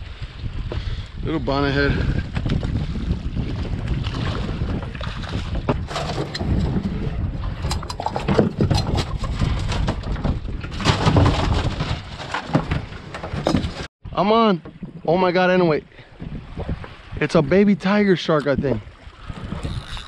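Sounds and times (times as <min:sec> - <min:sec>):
wind buffeting microphone: 0:00.0 - 0:13.9, 0:14.7 - 0:20.0.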